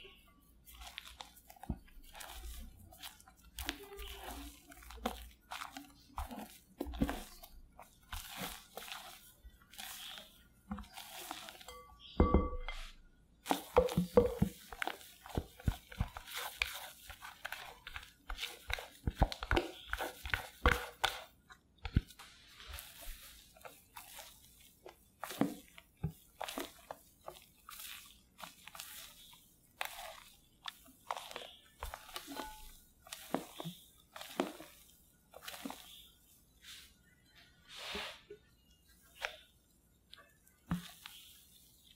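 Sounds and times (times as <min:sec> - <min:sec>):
spatula folding batter in bowl: 0:00.0 - 0:37.1, 0:40.2 - 0:41.9.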